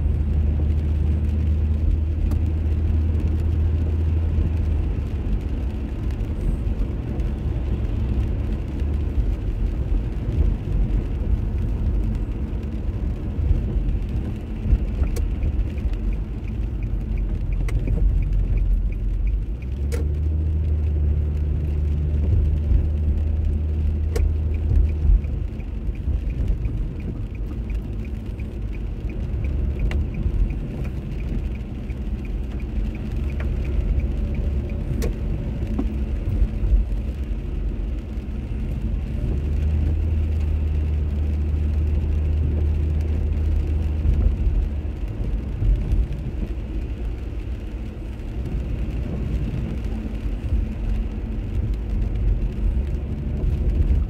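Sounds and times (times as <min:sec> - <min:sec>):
engine and tyres on wet road: 0:00.0 - 0:54.0.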